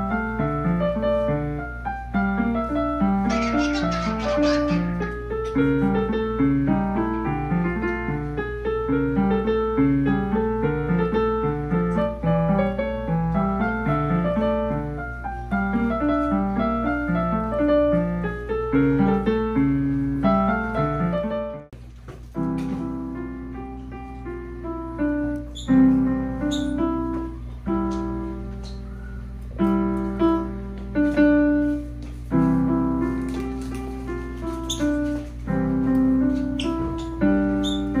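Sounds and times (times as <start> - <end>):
electronic keyboard piano melody: 0.0 - 21.7, 22.3 - 38.0.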